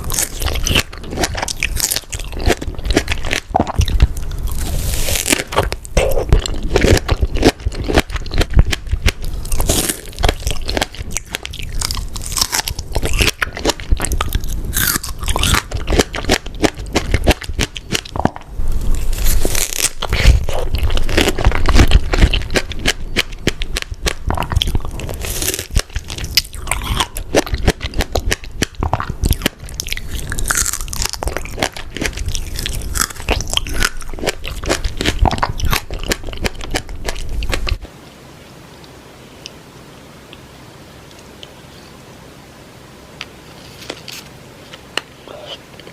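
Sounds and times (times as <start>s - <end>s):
wet chewing and crunching: 0.0s - 37.9s.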